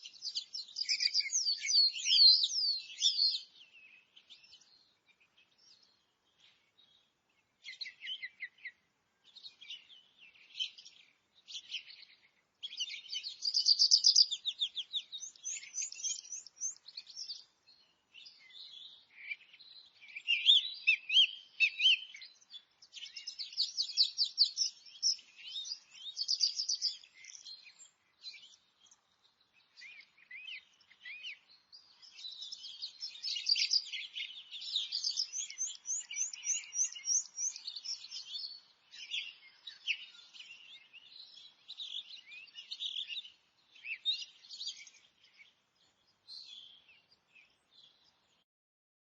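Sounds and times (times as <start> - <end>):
forest birds singing: 0.0 - 48.5.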